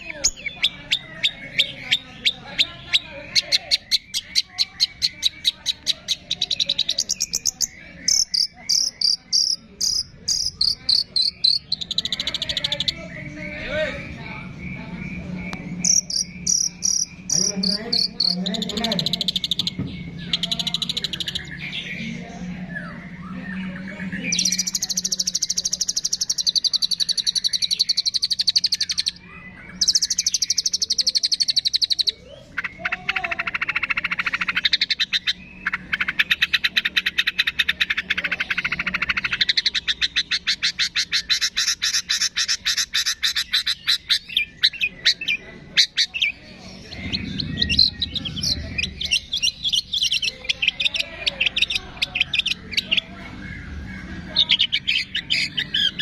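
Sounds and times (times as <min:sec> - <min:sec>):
songbird chatter and trills: 0:00.0 - 0:56.0.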